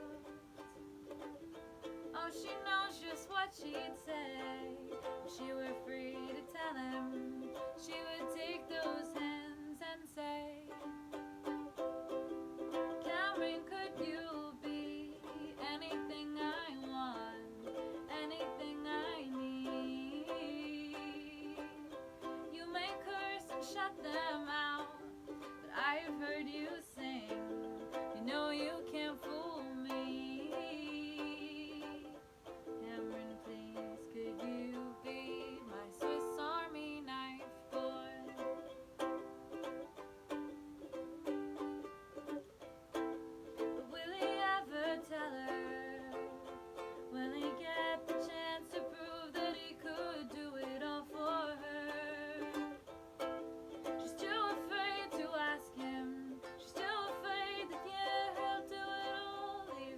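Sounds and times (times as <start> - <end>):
plucked string instrument melody: 0.0 - 59.9.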